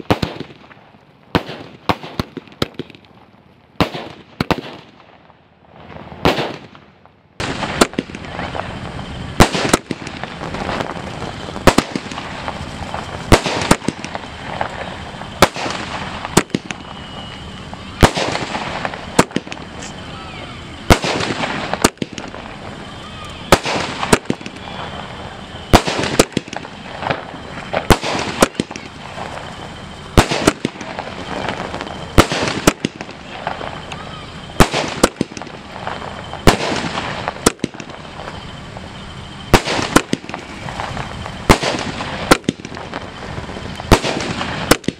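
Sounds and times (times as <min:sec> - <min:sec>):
crackle of firework stars: 0:00.0 - 0:44.9
firework shells bursting: 0:03.8 - 0:44.9.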